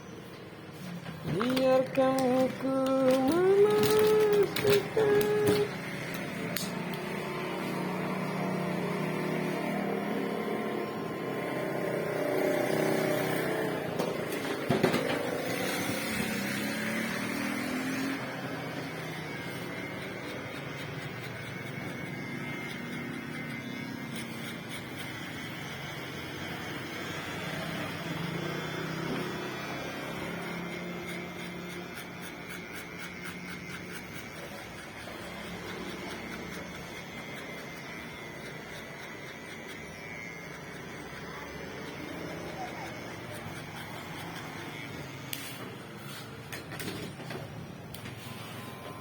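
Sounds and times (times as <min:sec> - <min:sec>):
electric hair clipper running: 0:01.3 - 0:49.0.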